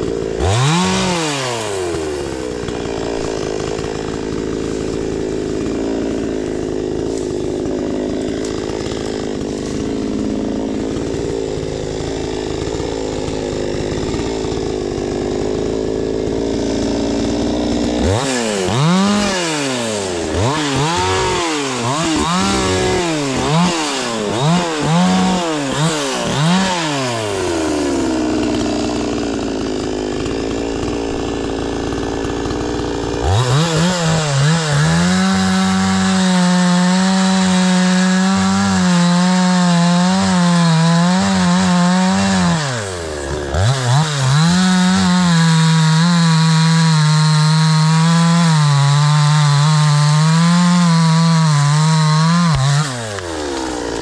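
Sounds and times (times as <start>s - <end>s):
chainsaw revving and cutting: 0.0s - 54.0s.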